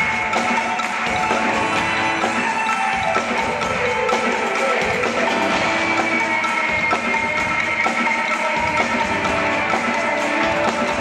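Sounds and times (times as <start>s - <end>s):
percussive beat: 0.0s - 11.0s.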